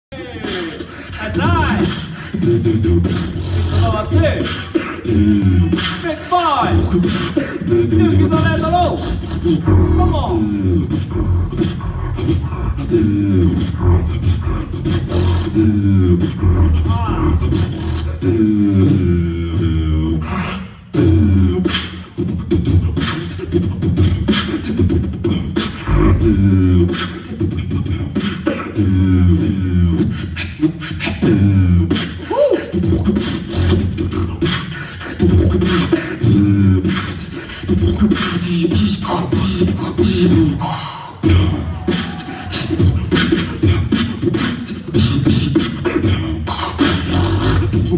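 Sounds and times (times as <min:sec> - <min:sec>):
human beatboxing: 0:00.1 - 0:47.9.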